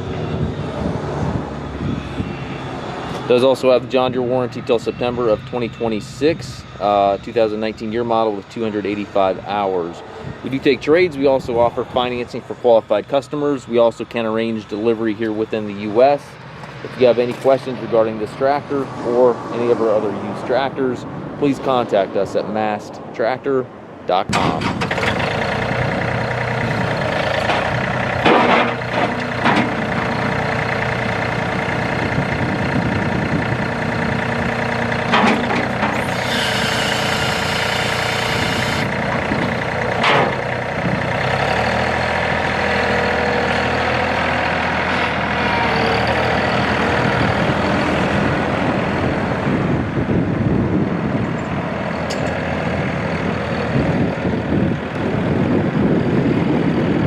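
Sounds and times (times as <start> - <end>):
diesel tractor engine running: 0.0 - 21.4, 24.2 - 57.0.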